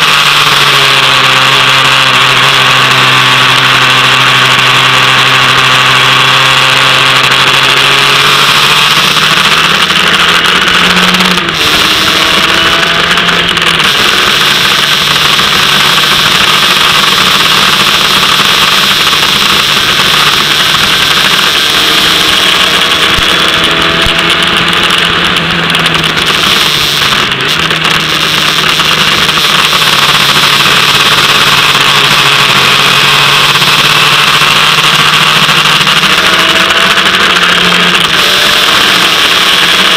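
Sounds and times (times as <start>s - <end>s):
race car engine revving: 0.0s - 39.9s
sharp gear change: 0.0s - 39.9s.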